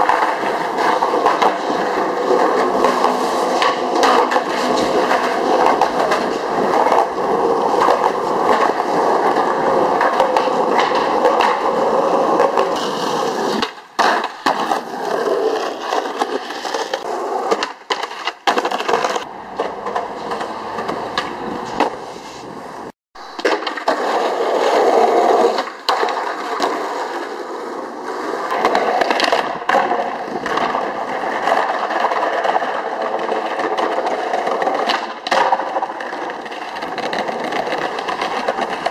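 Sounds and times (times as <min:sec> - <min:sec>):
skateboard popping and landing clacks: 0:00.0 - 0:38.9
skateboard wheels rolling on concrete: 0:00.0 - 0:38.9.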